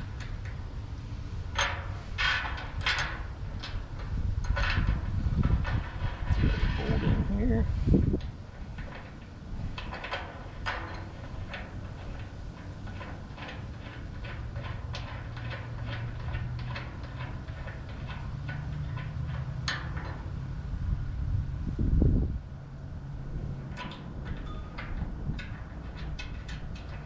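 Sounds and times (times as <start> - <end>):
metal clicks: 1.5 - 7.1, 8.1 - 20.5, 23.3 - 27.0.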